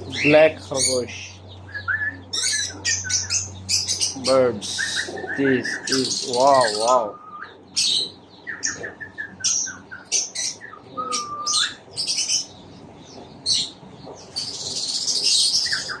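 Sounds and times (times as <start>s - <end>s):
high bird chattering: 0.0s - 16.0s
small birds chirping: 0.0s - 16.0s.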